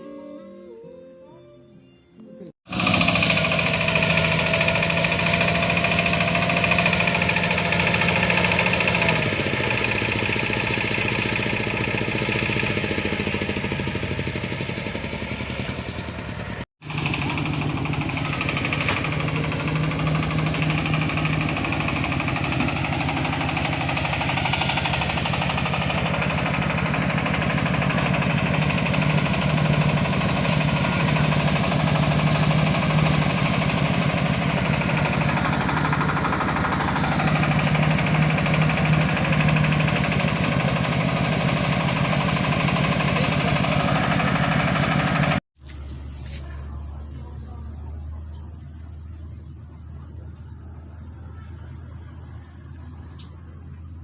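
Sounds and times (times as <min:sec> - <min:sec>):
engine humming steadily: 0:02.7 - 0:54.0.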